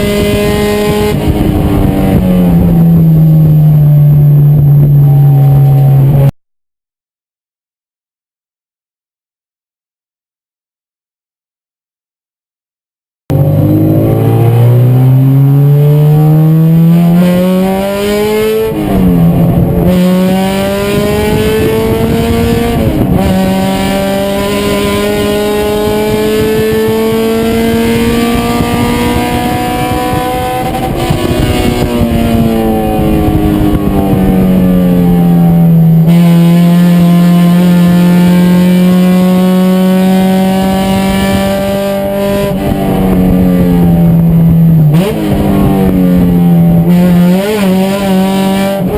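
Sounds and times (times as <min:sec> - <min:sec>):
race car engine accelerating: 0:00.0 - 0:06.3, 0:13.3 - 0:48.9.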